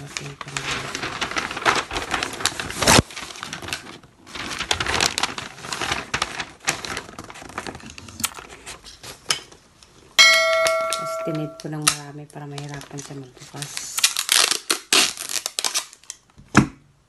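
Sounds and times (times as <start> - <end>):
wrapping paper crinkling: 0.0 - 9.2, 11.7 - 16.3.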